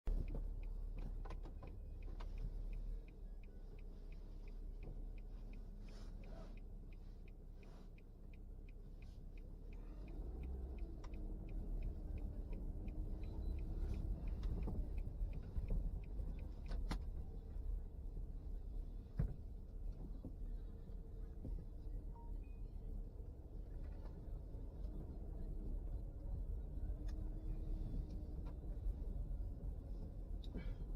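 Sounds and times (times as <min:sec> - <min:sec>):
car engine and road rumble: 0:00.0 - 0:30.9
turn signal ticking: 0:00.0 - 0:30.9.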